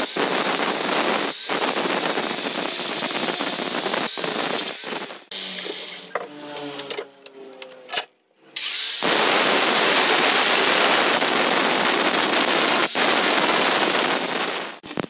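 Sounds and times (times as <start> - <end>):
angle grinder grinding metal: 0.0 - 14.8.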